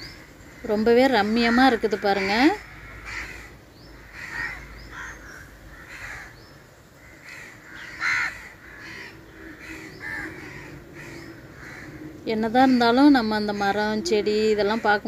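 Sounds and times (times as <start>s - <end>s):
birds making harsh calls: 0.0s - 15.0s.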